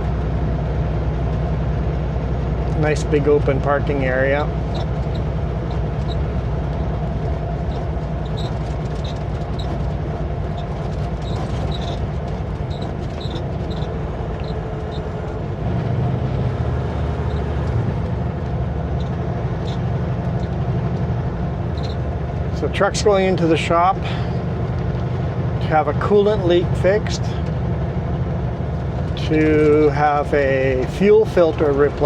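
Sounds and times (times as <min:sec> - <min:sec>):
truck diesel engine driving: 0:00.0 - 0:32.0.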